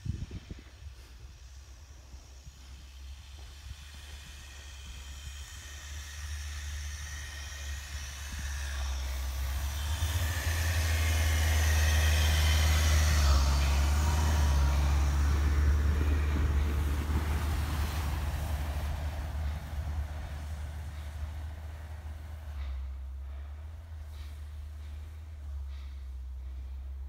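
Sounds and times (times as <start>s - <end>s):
diesel car engine pulling: 0.0s - 27.0s
tyres churning snow: 0.0s - 27.0s.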